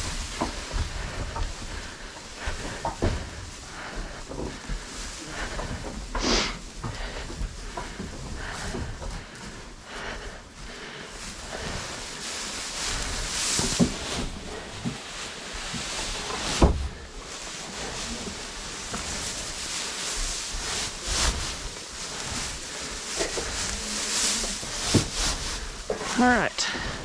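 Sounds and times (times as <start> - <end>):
dry hay rustling: 0.0 - 27.0.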